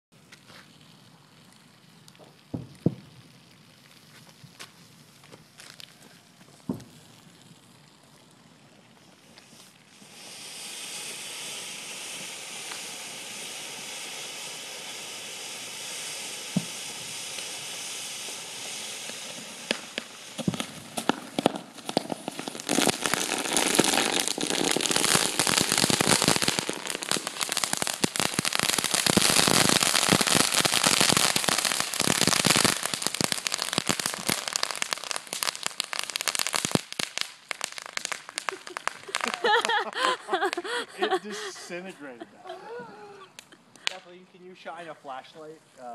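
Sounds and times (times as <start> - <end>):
firework fizzing: 0.2 - 45.9
firework popping and crackling: 0.2 - 45.9.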